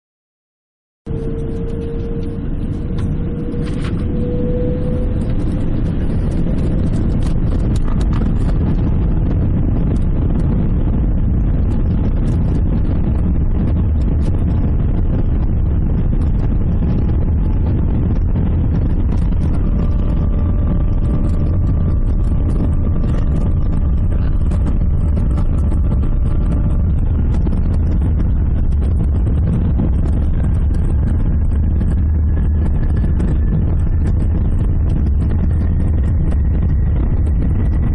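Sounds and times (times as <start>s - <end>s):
jet engines spooling up: 1.1s - 37.9s
thin steady whine: 1.1s - 37.9s.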